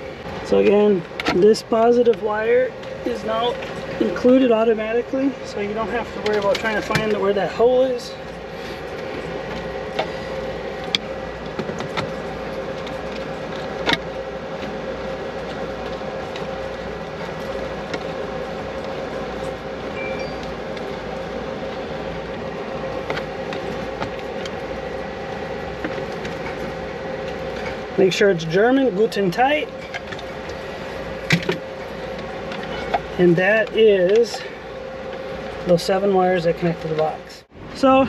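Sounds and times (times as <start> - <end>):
machine hum: 0.0 - 38.0.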